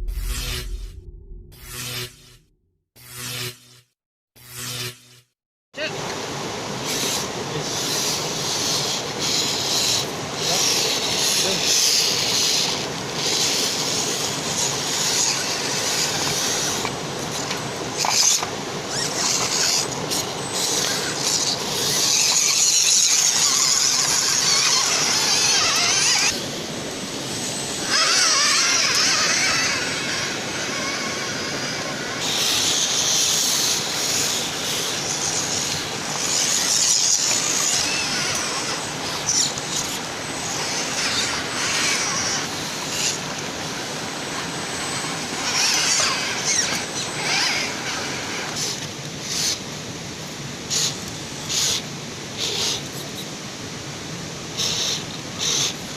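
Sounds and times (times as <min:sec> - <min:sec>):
rc truck motor whine: 0:06.8 - 0:53.3, 0:54.2 - 0:55.9.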